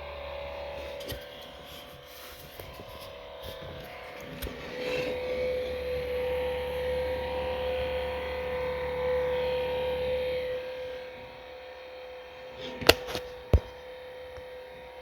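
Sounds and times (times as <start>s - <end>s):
laptop cooling fans whining: 0.0s - 15.0s.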